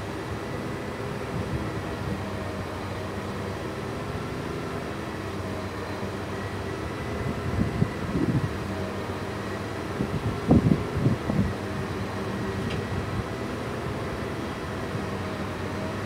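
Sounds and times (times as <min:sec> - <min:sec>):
railcar mechanical hum: 0:00.0 - 0:16.0.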